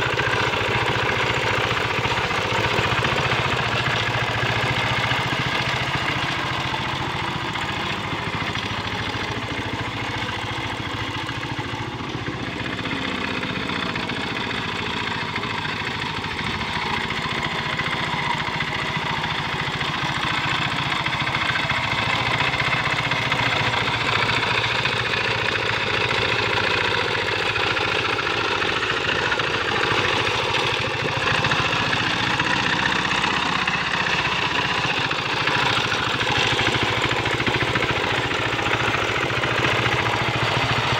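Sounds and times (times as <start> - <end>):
diesel engine running under load: 0.0 - 40.9
wheels working through mud: 0.0 - 40.9.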